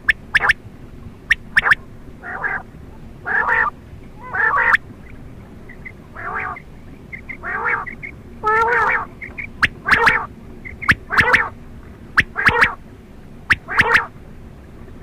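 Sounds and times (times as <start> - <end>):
quail calling: 0.0 - 0.6, 1.3 - 11.6, 12.2 - 12.8, 13.5 - 14.2.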